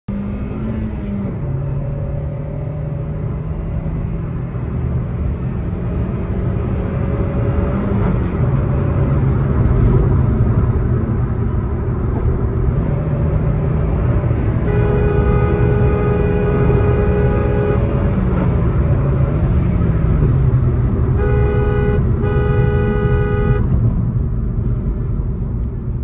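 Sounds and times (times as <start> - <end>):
car engine cruising: 0.1 - 26.0
tyre and road noise: 0.1 - 26.0.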